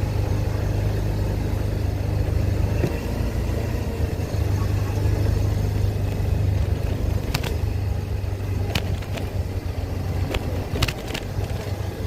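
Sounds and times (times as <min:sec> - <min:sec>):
scooter engine humming: 0:00.0 - 0:12.0.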